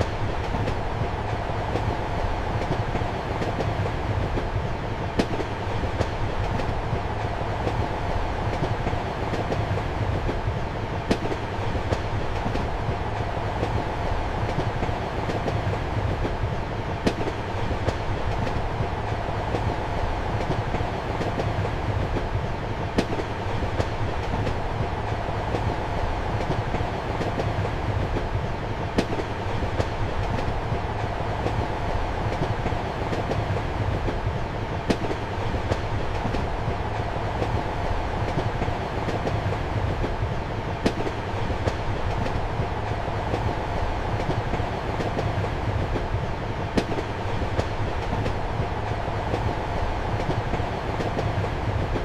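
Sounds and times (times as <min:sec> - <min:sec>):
train carriage rumble: 0:00.0 - 0:52.0.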